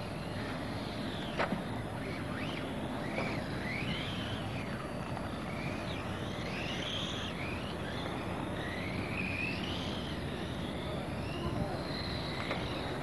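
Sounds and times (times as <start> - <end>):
model racing cars whining past: 0.0 - 13.0.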